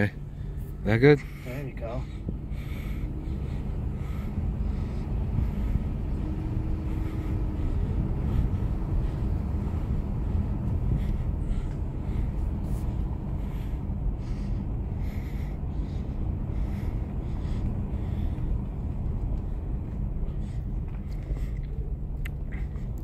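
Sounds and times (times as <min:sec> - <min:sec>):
wind rumbling on microphone: 0:02.1 - 0:21.6.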